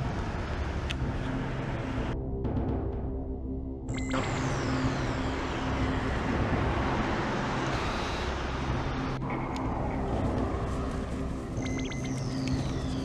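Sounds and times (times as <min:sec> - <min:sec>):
background music with low notes: 0:00.0 - 0:13.0.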